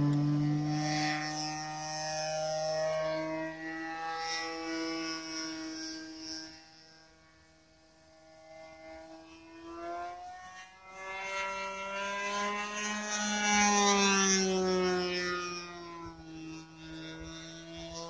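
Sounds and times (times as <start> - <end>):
model plane engine passing: 0.0 - 18.0.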